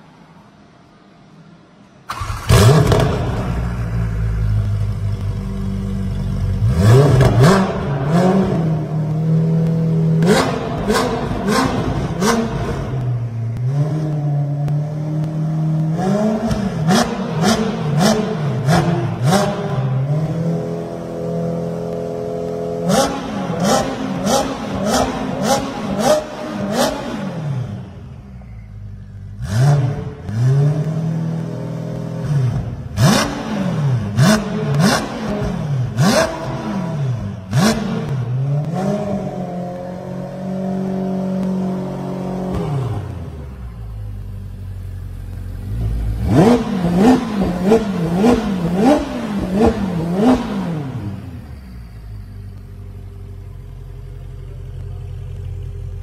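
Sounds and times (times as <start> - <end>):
sports car engine revving: 2.1 - 56.0.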